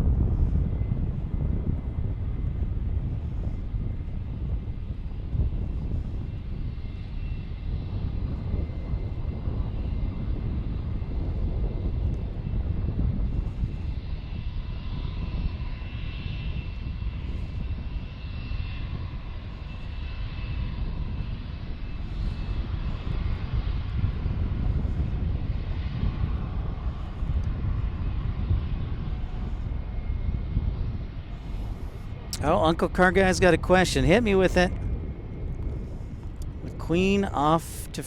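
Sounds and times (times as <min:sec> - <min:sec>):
jet engines at takeoff: 0:00.0 - 0:38.0.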